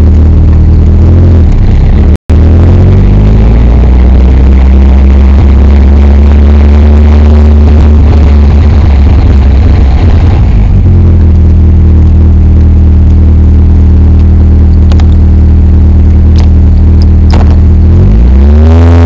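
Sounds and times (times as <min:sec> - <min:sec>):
car engine idling: 0:00.0 - 0:19.0
engine revving: 0:00.0 - 0:19.0.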